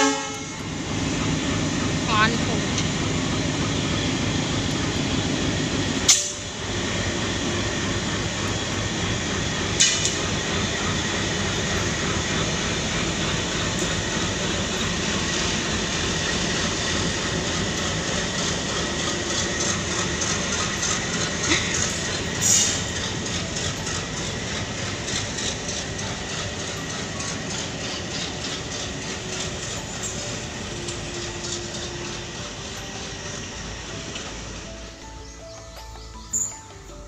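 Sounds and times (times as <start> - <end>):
diesel locomotive running: 0.0 - 37.0
wheels rolling on rails: 1.1 - 35.4.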